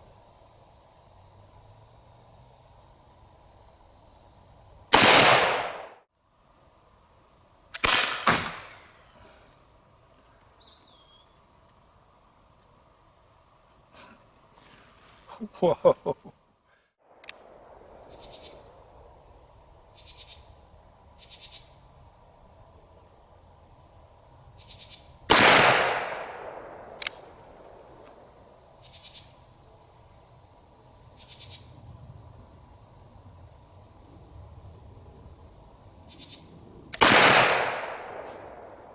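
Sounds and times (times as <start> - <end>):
high buzz of insects: 0.0 - 38.9.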